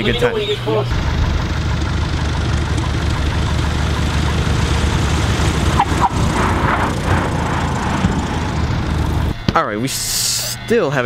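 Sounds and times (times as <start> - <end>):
light aircraft engine droning: 0.0 - 10.5.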